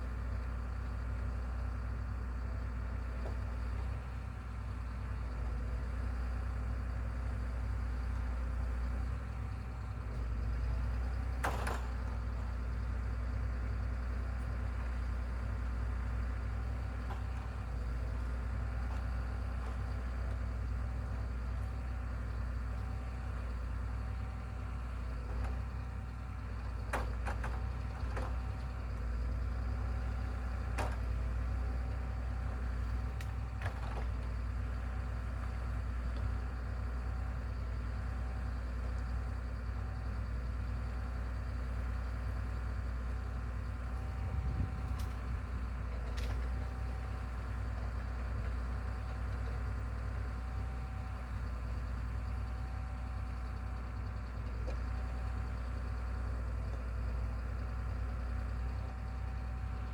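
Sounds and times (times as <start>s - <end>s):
machine engine rumbling: 0.0s - 59.9s.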